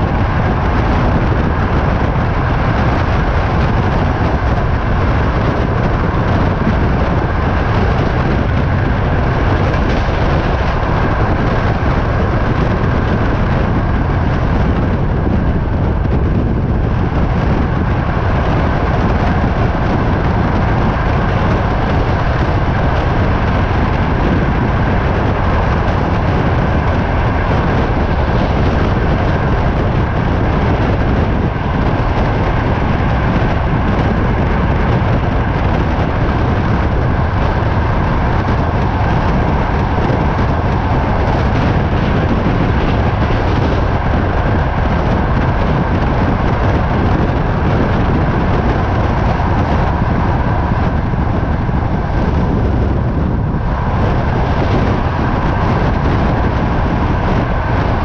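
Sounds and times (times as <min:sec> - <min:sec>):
train hum: 0:00.0 - 0:58.0
wind noise: 0:00.0 - 0:58.0.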